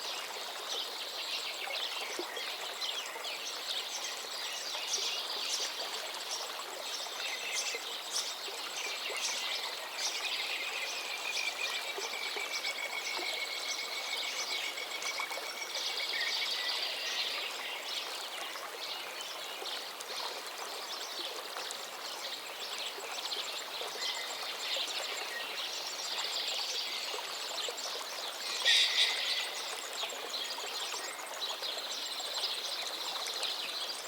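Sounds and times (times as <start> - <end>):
stream flowing: 0.0 - 34.0
songbirds singing: 1.1 - 34.0.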